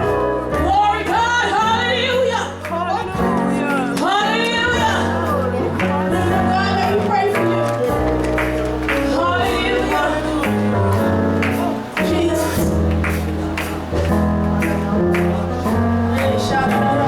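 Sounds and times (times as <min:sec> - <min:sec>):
bass line: 0:00.0 - 0:17.0
organ chords: 0:00.0 - 0:17.0
drum beat: 0:01.2 - 0:17.0.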